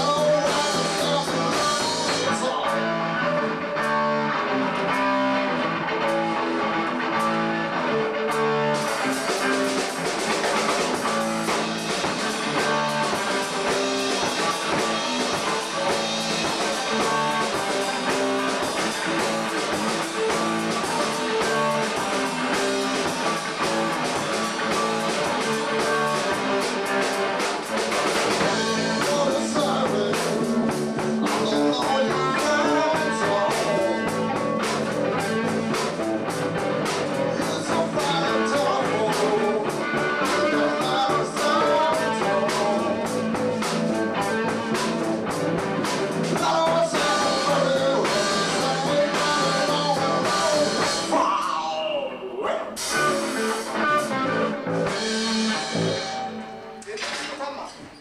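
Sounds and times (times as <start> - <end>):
drum kit: 0.0 - 51.9, 52.6 - 58.0
bass guitar: 0.0 - 58.0
electric guitar: 0.0 - 58.0.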